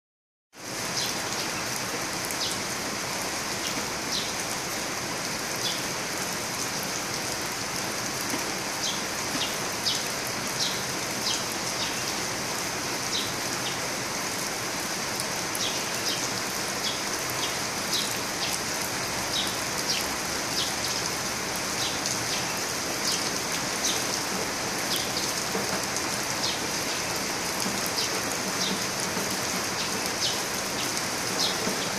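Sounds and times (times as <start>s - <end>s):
rain on plants and flowerpots: 0.5s - 31.9s.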